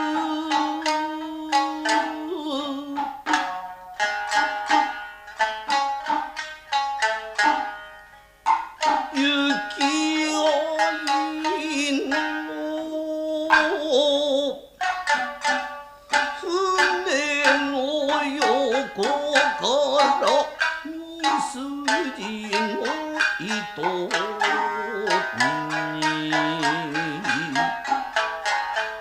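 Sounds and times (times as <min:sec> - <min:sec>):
shamisen plucking: 0:00.0 - 0:29.0.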